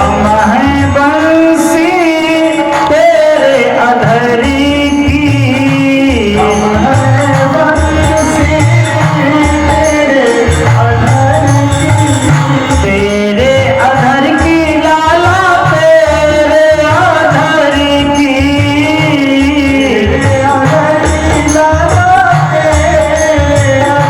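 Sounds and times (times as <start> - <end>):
held instrumental notes: 0.0 - 24.0
person singing: 0.0 - 24.0
steady drum rhythm: 0.0 - 24.0.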